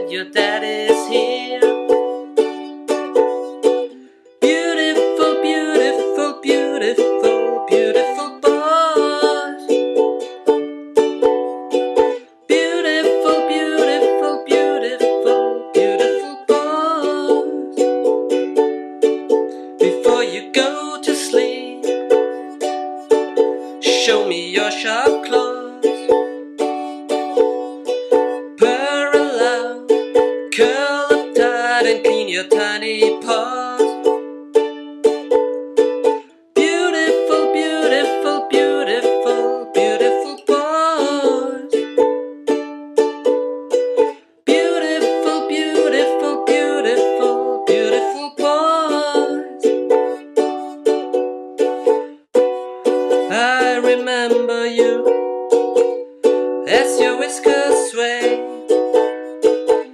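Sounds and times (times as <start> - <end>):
plucked-string song: 0.0 - 59.9.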